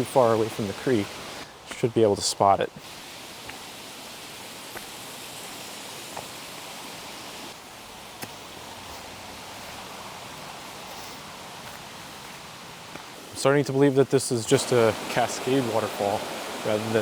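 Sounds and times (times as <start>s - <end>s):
creek water rushing over cascades: 0.0s - 17.0s.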